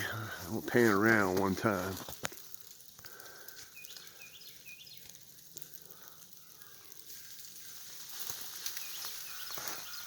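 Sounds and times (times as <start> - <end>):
snow falling hiss: 0.0 - 10.0.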